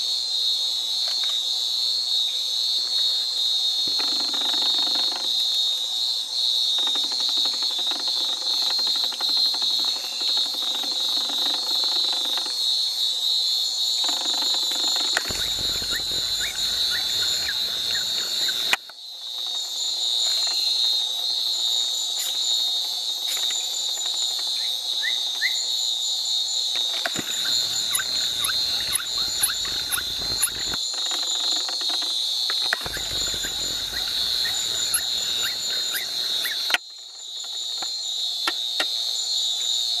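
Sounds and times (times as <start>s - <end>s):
insect chorus droning: 0.0s - 40.0s
pulsing insect trill: 0.0s - 40.0s.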